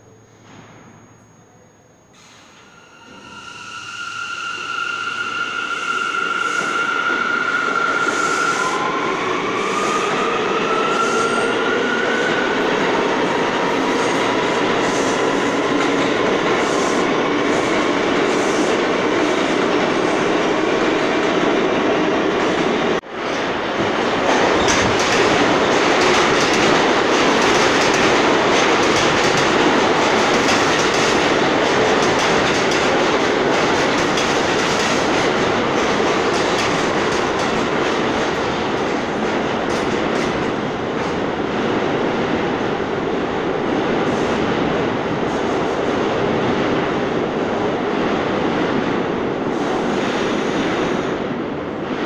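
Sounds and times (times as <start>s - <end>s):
train wheels rumbling: 2.3s - 52.0s.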